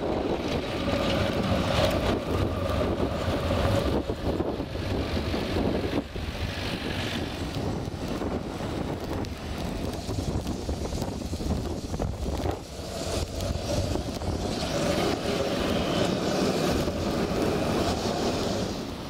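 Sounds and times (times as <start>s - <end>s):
electric tram passing: 0.0s - 19.0s.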